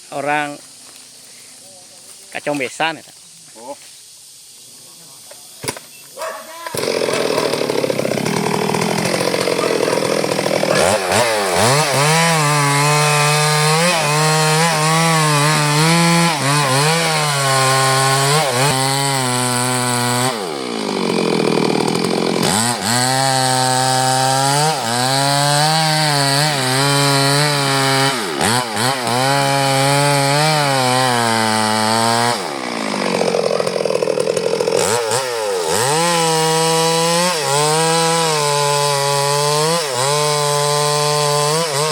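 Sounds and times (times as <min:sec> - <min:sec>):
chainsaw cutting wood: 0:05.6 - 0:41.9.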